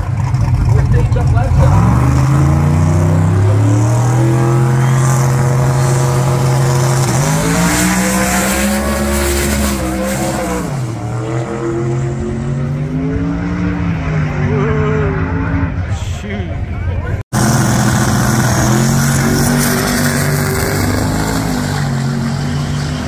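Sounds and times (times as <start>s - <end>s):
drag car engines revving: 0.0s - 23.0s.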